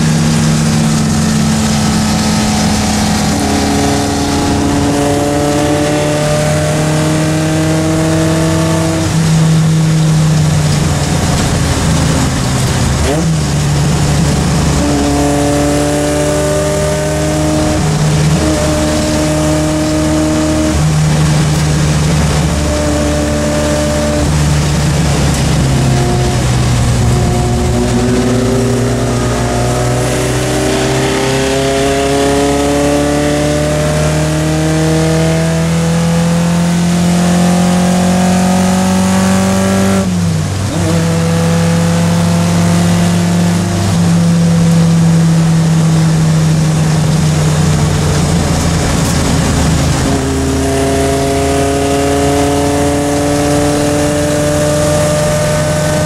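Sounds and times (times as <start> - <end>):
car engine from inside cabin: 0.0 - 56.0
road and wind noise: 0.0 - 56.0.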